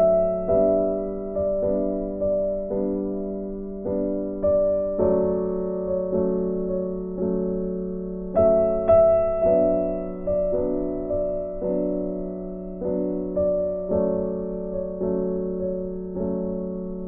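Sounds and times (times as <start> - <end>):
slow piano keyboard music: 0.0 - 17.0.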